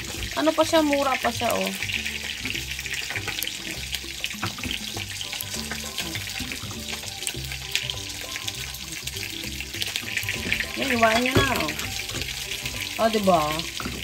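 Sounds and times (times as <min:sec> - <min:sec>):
background music with bass: 0:00.0 - 0:14.0.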